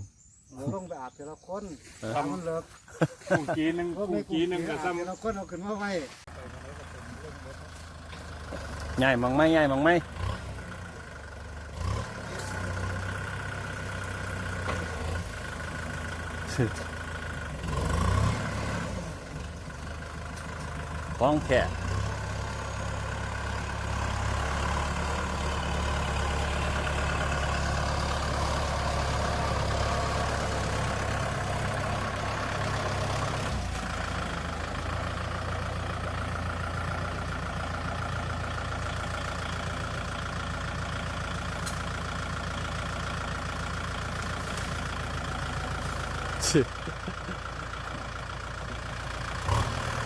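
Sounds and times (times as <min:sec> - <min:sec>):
heavy diesel engine running: 0:06.3 - 0:50.0.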